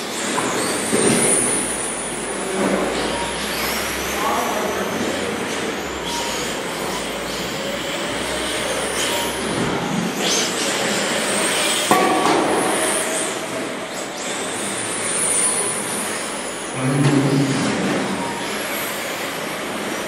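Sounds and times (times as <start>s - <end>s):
rc truck motors whining: 0.1s - 11.9s, 12.7s - 16.8s, 17.6s - 20.0s.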